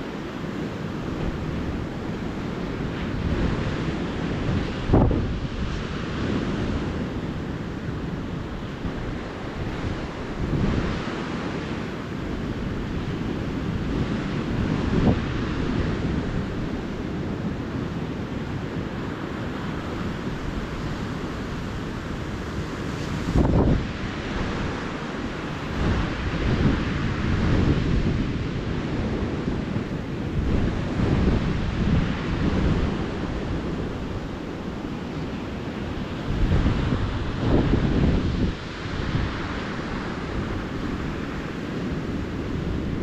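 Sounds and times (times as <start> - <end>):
ocean surf on beach: 0.0 - 43.0
wind buffeting microphone: 0.0 - 43.0.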